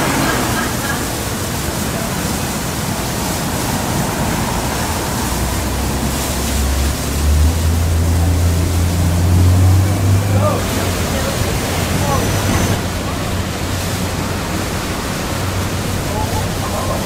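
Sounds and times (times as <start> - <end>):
rushing air: 0.0 - 17.0.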